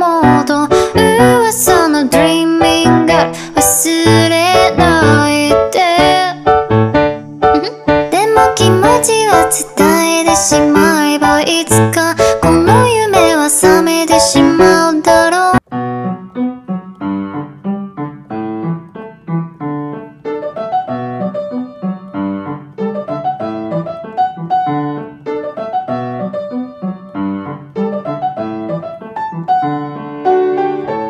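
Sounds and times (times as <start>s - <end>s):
solo piano playing: 0.0s - 31.0s.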